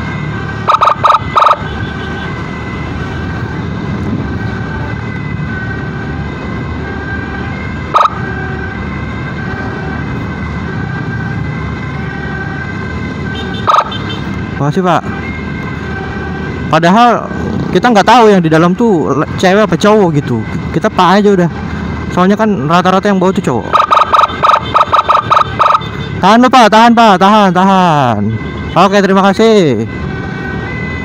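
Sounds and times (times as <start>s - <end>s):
emergency siren: 0.0s - 31.0s
loud siren blasts: 0.0s - 31.0s
road and engine noise: 0.0s - 31.0s.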